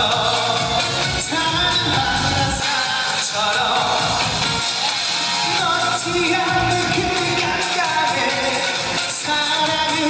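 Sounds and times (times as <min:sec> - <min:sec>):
band playing song accompaniment: 0:00.0 - 0:10.0.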